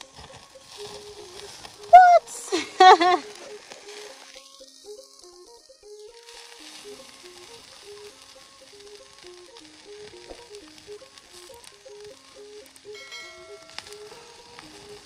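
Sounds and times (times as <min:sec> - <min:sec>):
background music with plucked melody: 0:00.0 - 0:15.0
chicken sizzling on a grill: 0:00.0 - 0:15.0.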